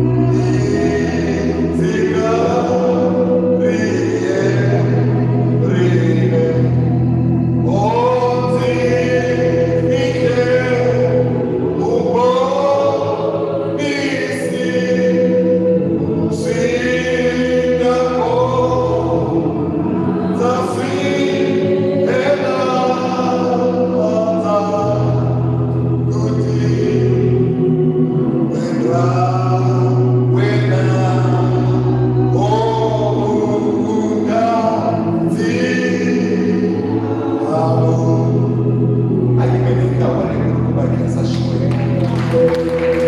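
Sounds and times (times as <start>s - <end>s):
man singing into microphone: 0.0s - 27.6s, 28.2s - 43.0s
sustained keyboard chords: 0.0s - 43.0s.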